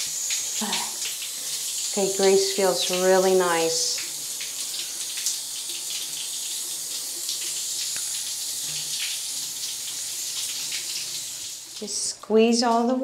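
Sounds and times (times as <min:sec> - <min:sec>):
shower sprayer water spraying: 0:00.0 - 0:12.9.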